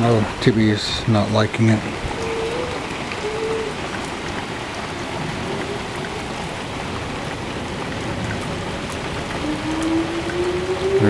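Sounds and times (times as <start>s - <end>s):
heavy rain pouring: 0.0s - 11.0s
distant warning siren wailing: 1.9s - 11.0s.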